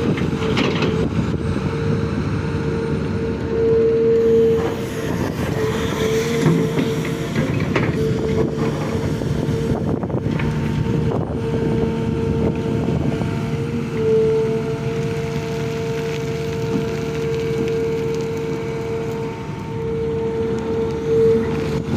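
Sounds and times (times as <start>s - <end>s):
excavator engine and hydraulics whine: 0.0s - 21.9s.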